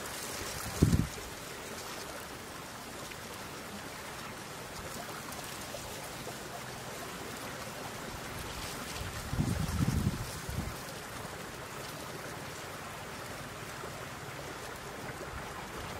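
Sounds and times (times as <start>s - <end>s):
flowing water rushing: 0.0s - 15.9s.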